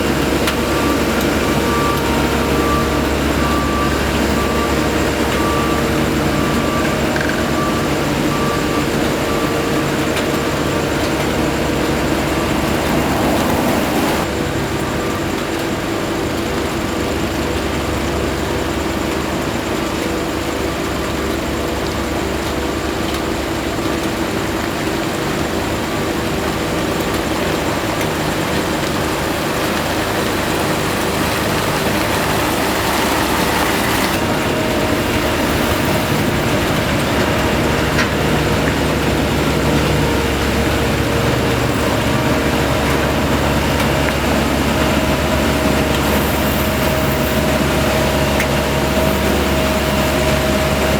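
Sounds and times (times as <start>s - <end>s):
diesel machinery engine drone: 0.0s - 50.9s.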